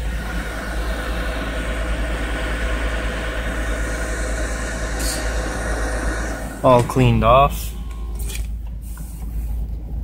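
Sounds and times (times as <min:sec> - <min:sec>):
heater blower running: 0:00.0 - 0:08.6
car engine idling: 0:00.0 - 0:10.0.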